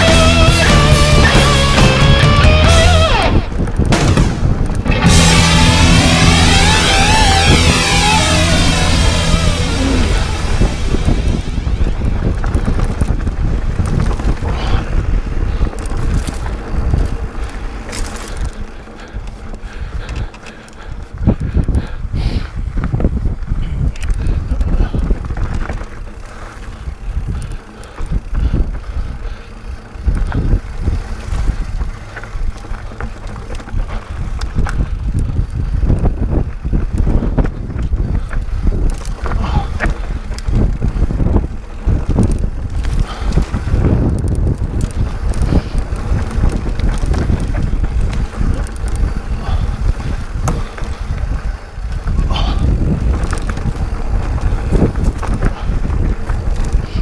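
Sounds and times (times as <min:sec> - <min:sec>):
bike knocks and rattles: 0:00.0 - 0:22.0, 0:22.6 - 0:57.0
bike tyres rolling over dirt and rock: 0:00.0 - 0:57.0
wind rumbling on microphone: 0:00.0 - 0:57.0.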